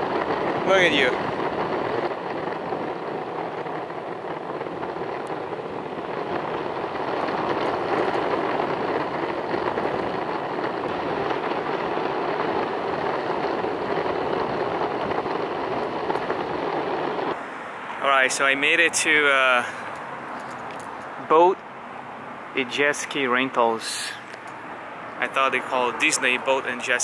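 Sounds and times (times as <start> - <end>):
skateboard wheels rolling on asphalt: 0.0 - 27.0.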